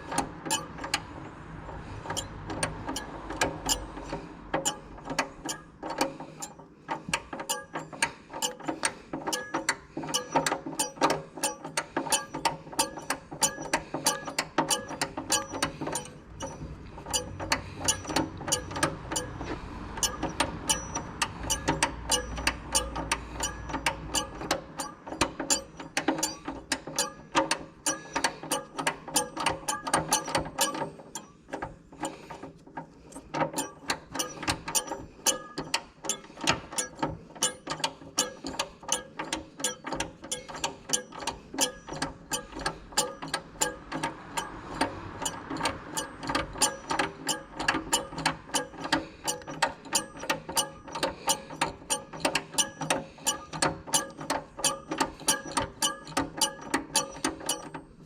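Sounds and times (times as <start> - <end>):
ratchet wrench clicking: 2.1 - 31.3, 33.2 - 57.8.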